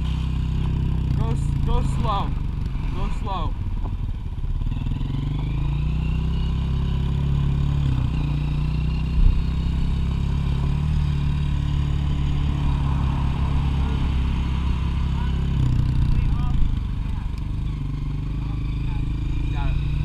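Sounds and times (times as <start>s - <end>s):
dirt bike engine pulling away: 0.0s - 20.0s.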